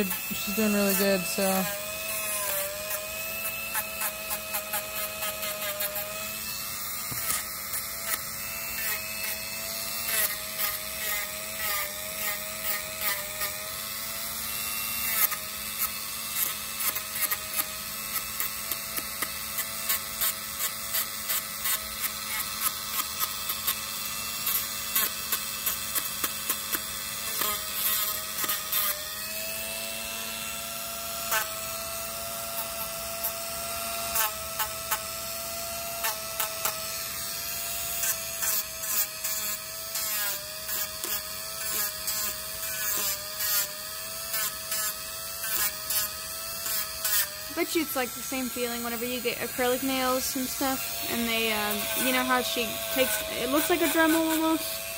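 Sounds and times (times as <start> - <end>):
grinding scrapes on toenails: 0.0 - 13.7, 14.5 - 29.5, 32.2 - 35.2, 35.8 - 54.9
rotary tool motor whine: 0.0 - 54.9.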